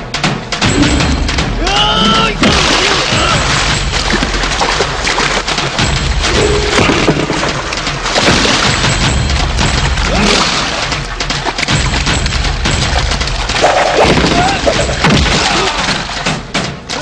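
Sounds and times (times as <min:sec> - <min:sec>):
water splashing and spraying: 0:00.0 - 0:17.0.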